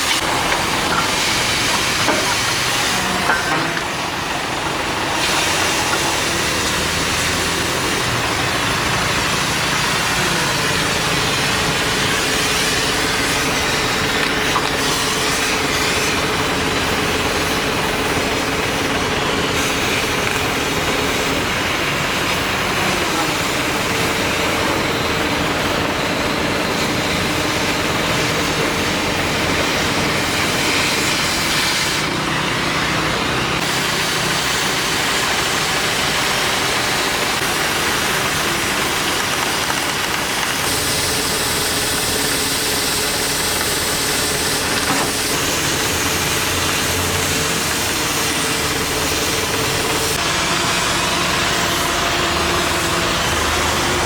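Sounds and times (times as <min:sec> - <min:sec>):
heavy engine running: 0:00.0 - 0:54.0.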